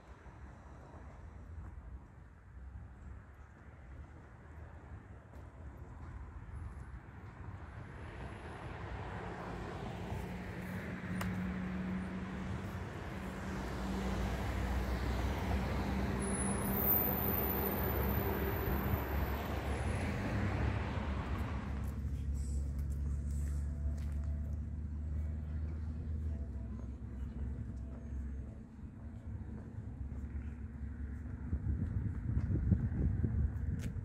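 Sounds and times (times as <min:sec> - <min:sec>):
vehicles driving by: 0:00.0 - 0:34.0.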